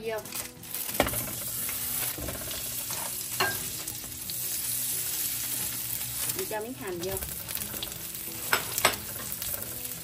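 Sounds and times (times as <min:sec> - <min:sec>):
butter sizzling in a frying pan: 0:00.0 - 0:10.0.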